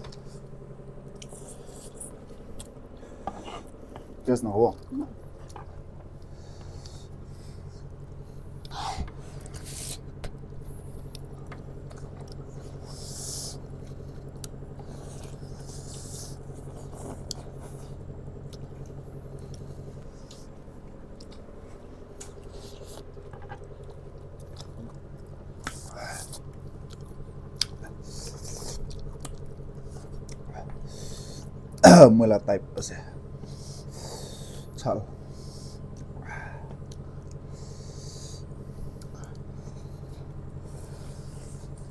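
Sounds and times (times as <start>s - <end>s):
people chewing noodles: 0.0s - 31.9s, 32.8s - 41.9s
steady low hum: 0.0s - 41.9s.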